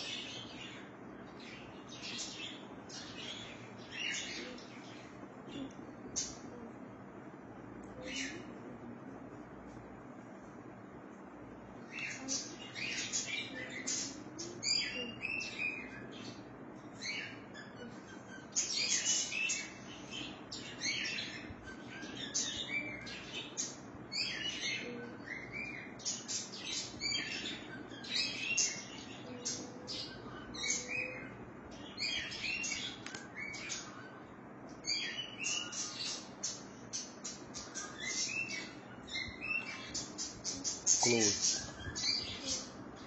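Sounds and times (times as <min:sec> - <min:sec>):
birds chirping: 0:00.0 - 0:43.0
faint low hum: 0:00.0 - 0:43.0.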